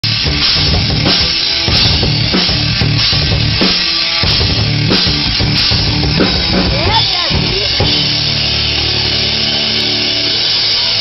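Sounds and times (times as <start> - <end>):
drum kit steady beat: 0.0 - 11.0.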